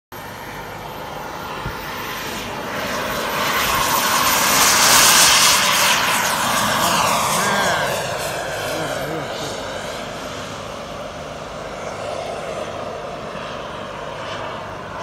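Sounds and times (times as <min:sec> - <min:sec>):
model jet engine: 0:00.1 - 0:15.0.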